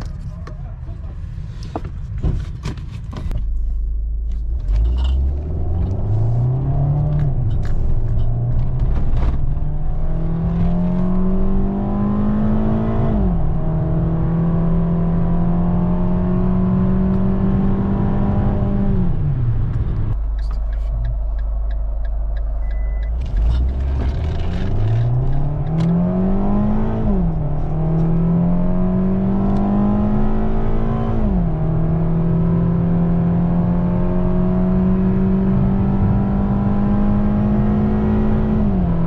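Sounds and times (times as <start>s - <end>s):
car engine accelerating: 3.3s - 39.0s.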